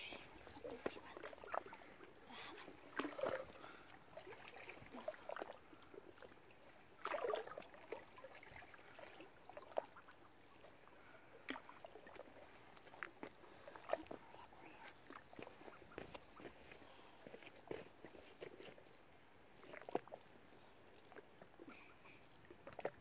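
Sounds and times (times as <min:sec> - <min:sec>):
small water splashes and lapping: 0:00.0 - 0:23.0.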